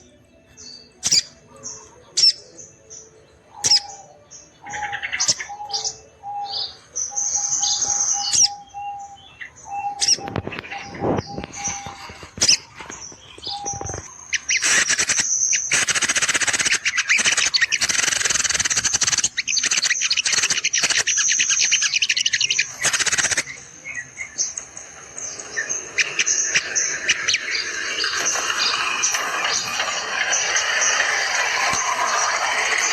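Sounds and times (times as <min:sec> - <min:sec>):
birds chirping and twittering: 0:00.0 - 0:32.9.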